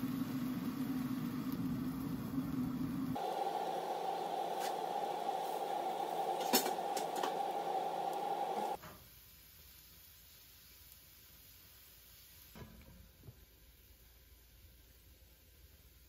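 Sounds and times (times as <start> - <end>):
kitchen cooking noise: 0.0 - 14.1.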